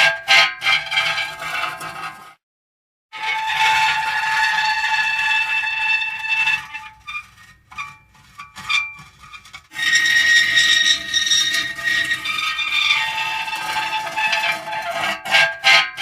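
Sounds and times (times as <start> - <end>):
metal squealing: 0.0 - 2.2, 3.2 - 16.0.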